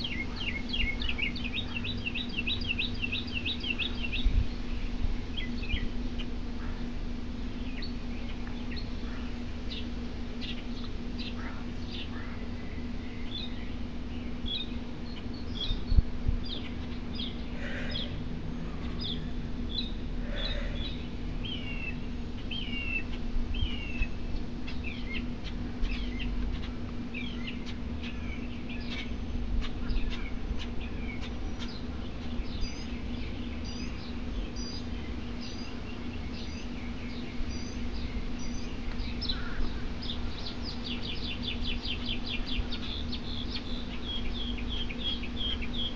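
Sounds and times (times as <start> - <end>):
outdoor rumble: 0.0 - 45.9
small birds chirping: 0.0 - 45.9
steady low hum: 0.0 - 45.9.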